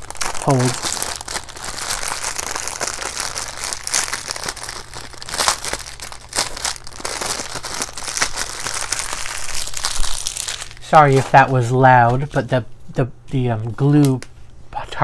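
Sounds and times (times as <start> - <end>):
packaging crinkling: 0.0 - 12.5.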